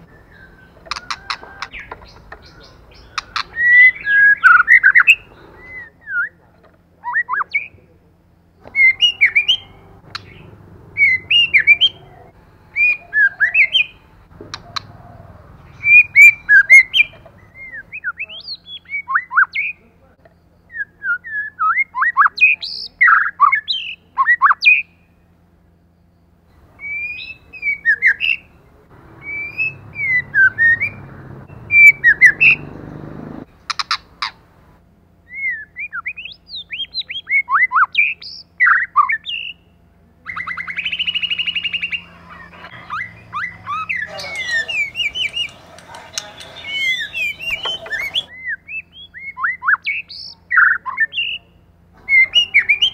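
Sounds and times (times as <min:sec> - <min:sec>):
songbird whistling song: 0:00.0 - 0:06.4, 0:07.0 - 0:07.9, 0:08.5 - 0:25.2, 0:25.8 - 0:28.6, 0:29.2 - 0:32.8, 0:35.3 - 0:52.9.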